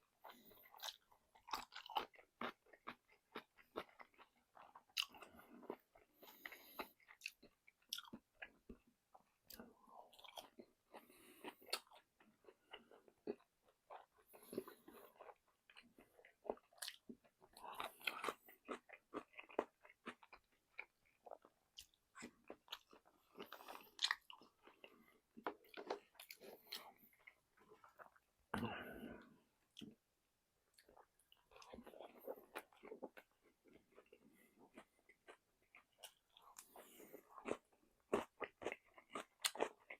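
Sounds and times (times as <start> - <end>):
person chewing crunchy food: 0.0 - 30.0, 30.7 - 39.9.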